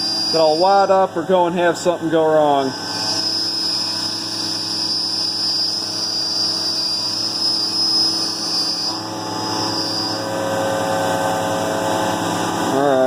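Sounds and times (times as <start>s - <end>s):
high-pitched whine: 0.0s - 13.0s
milling machine cutting: 0.0s - 13.0s.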